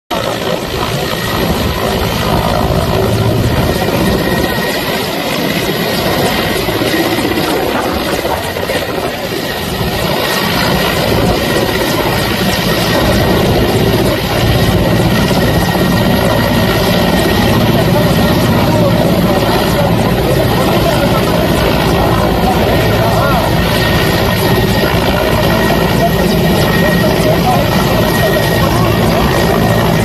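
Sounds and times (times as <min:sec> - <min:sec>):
helicopter hovering: 0:00.1 - 0:30.0.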